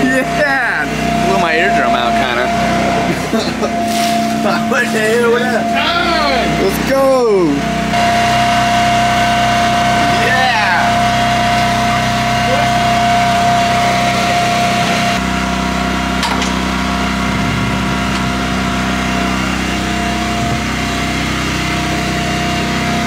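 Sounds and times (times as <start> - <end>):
boat engine running: 0.0 - 23.0
high whine: 0.0 - 23.0.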